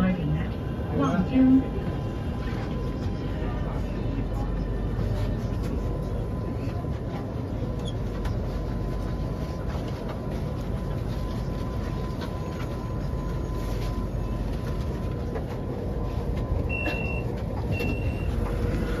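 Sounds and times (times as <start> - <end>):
train cabin rumble: 0.0 - 19.0.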